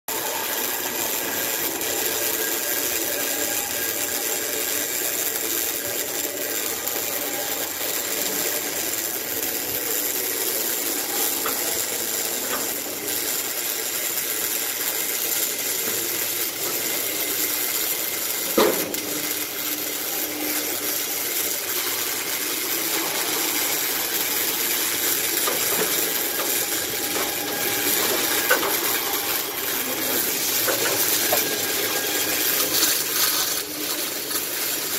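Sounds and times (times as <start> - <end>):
welding arc hissing: 0.1 - 34.9.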